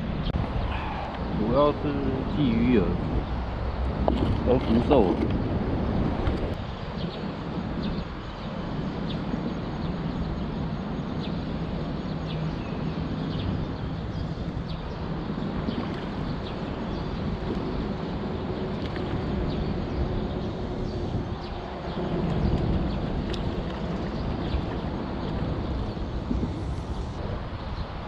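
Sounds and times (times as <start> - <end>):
traffic rumble on bridge: 0.0 - 28.0.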